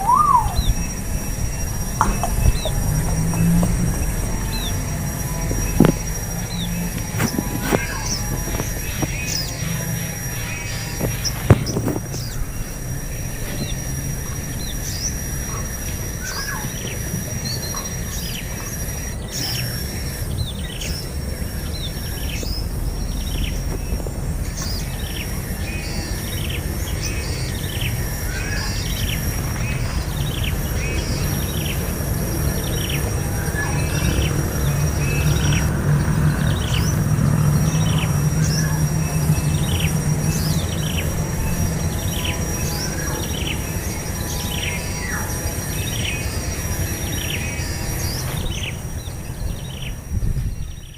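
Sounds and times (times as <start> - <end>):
thin high whine: 0.0 - 49.6
bird chirping: 0.0 - 50.9
steady low rumble: 0.0 - 50.9.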